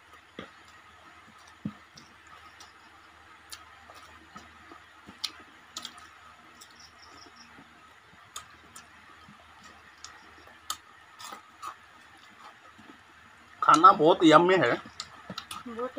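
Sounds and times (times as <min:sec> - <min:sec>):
people eating and chewing: 0:00.0 - 0:15.9.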